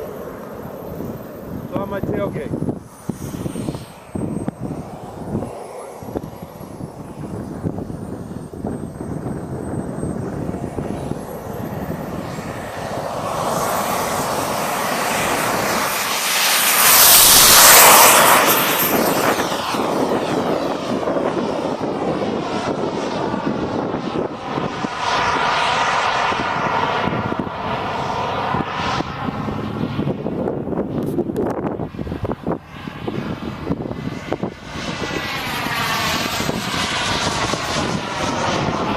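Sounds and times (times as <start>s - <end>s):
jet rush passing: 0.0s - 38.9s
jet turbine whine: 0.0s - 38.9s.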